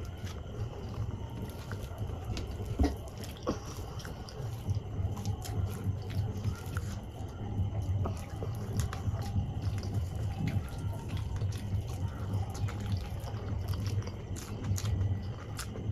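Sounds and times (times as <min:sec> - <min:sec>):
chewing: 0:00.0 - 0:15.9
fingers squishing soft food: 0:00.0 - 0:15.9.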